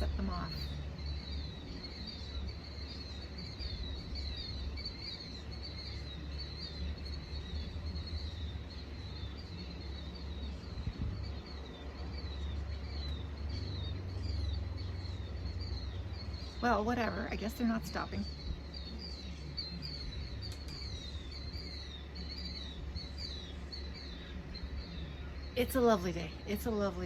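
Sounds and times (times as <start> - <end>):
bird piping calls: 0.0 - 27.0
wind rumbling on microphone: 0.0 - 27.0.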